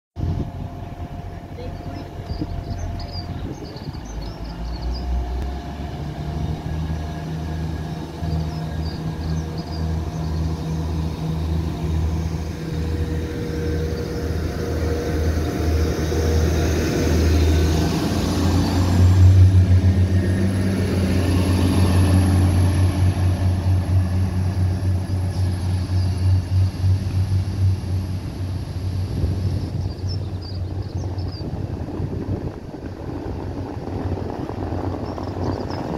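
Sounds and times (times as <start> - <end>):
diesel train engines throbbing: 0.2 - 35.9.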